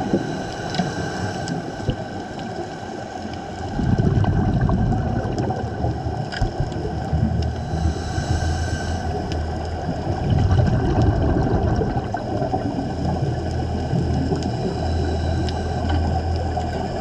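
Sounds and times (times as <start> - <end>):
regulator bubbles gurgling underwater: 0.0 - 17.0.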